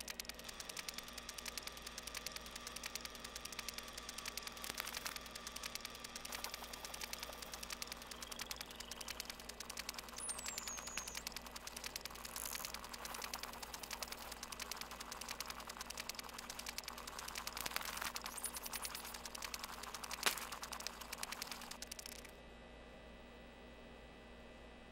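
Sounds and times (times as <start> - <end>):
rapid mechanical clicks: 0.0 - 22.3.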